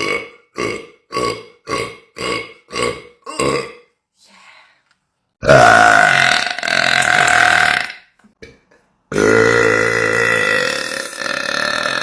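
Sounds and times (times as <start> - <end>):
person burping: 0.0 - 4.0, 5.4 - 12.0.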